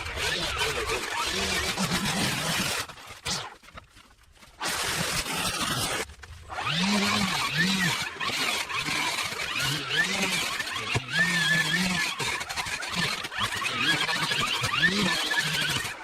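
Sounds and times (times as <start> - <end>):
power tool motor cutting overgrowth: 0.0 - 16.0.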